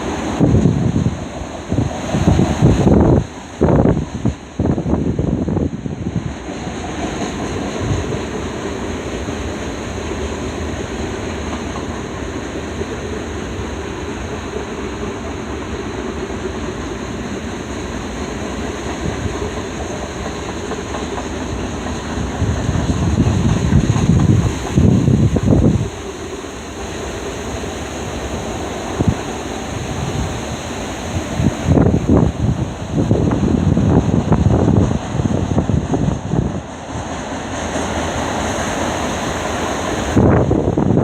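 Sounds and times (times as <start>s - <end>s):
freight train rumbling past: 0.0s - 41.0s
wind buffeting microphone: 0.0s - 41.0s.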